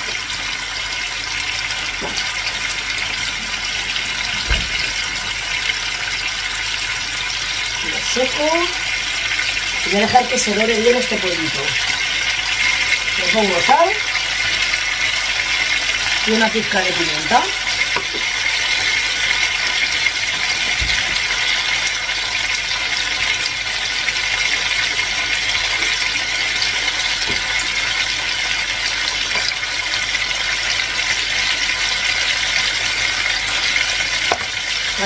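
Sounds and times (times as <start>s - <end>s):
chicken sizzling in a pot: 0.0s - 35.0s.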